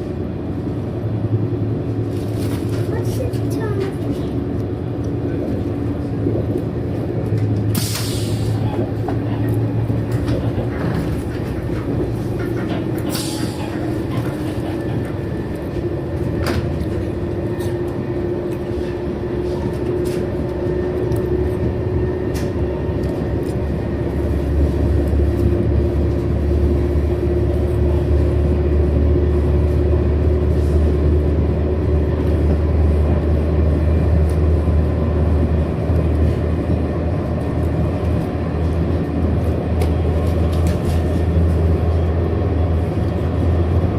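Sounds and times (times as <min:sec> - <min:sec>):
train rumble inside passenger car: 0:00.0 - 0:43.9.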